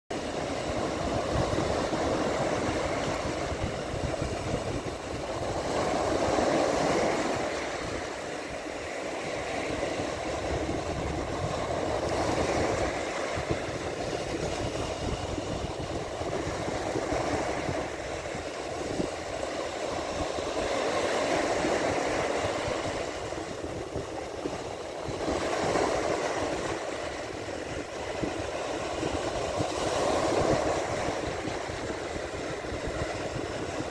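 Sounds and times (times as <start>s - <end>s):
sea waves breaking on shore: 0.1s - 33.9s.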